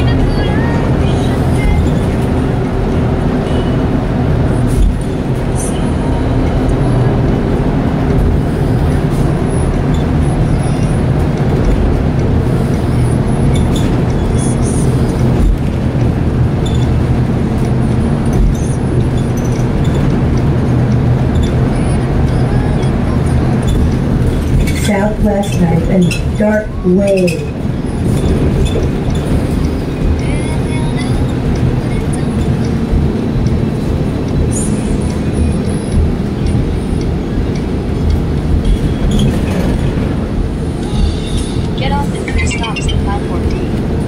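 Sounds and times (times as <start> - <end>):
vehicle engine and tyre rumble: 0.0 - 44.0.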